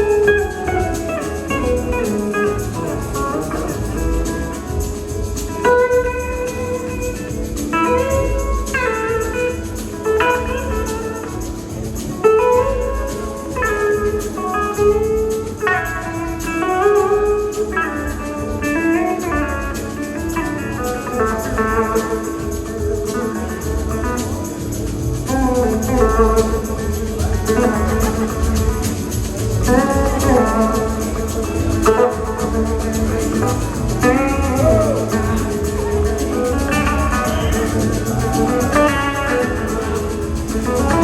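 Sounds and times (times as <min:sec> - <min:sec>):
blues-rock band playing: 0:00.0 - 0:41.0
lead electric guitar: 0:00.0 - 0:41.0.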